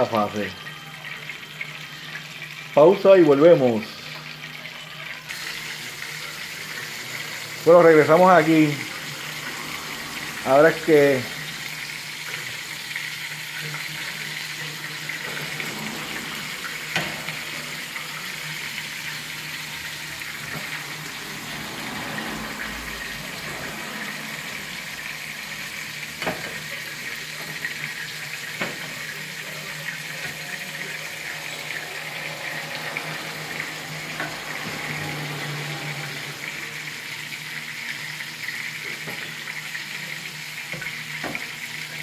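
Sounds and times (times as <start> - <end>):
food sizzling in a frying pan: 0.0 - 42.0.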